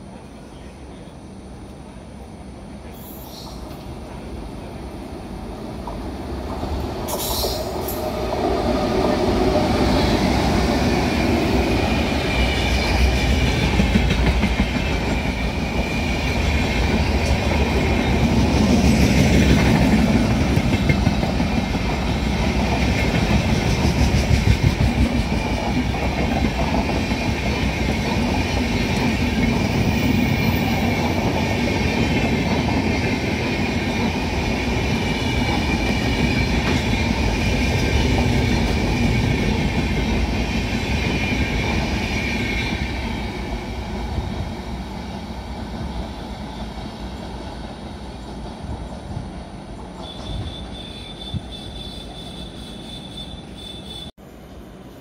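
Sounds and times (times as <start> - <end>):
train passing at speed: 0.0 - 55.0.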